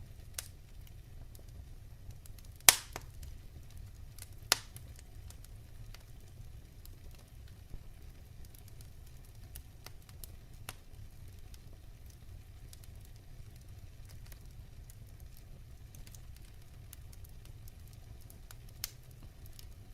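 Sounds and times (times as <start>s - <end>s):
low rumble of fire: 0.0s - 19.9s
wood fire crackling: 0.0s - 19.9s.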